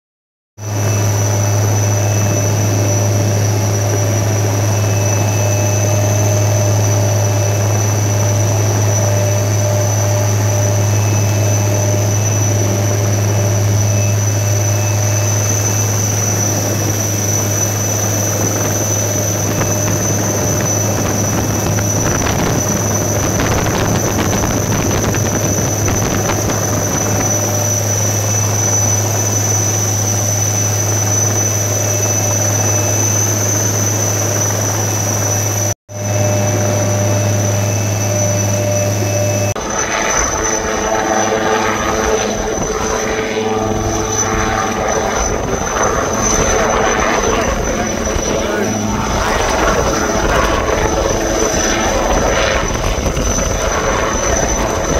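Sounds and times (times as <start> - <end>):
helicopter engine and rotor hum: 0.6 - 54.9
helicopter hovering: 0.6 - 54.9.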